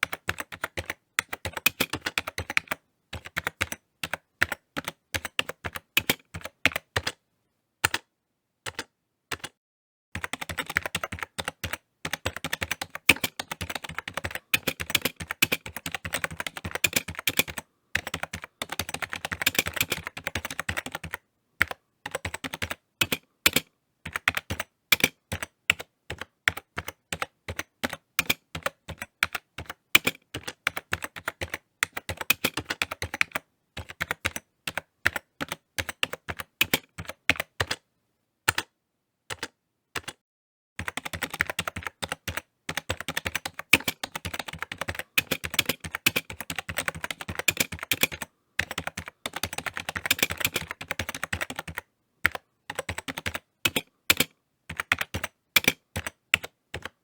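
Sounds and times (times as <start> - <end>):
typing on keyboard: 0.0 - 7.2, 7.8 - 8.1, 8.7 - 9.6, 10.2 - 37.8, 38.5 - 38.7, 39.3 - 40.2, 40.8 - 57.0.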